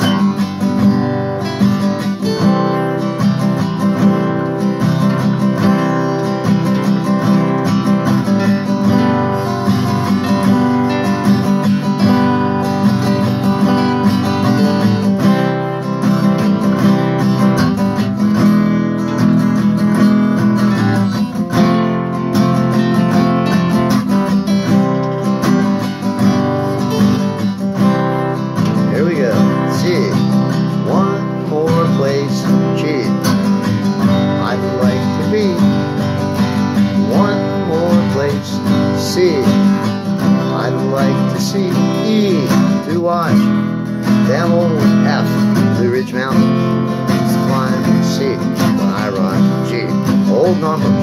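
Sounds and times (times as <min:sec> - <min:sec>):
acoustic guitar playing: 0:00.0 - 0:51.0.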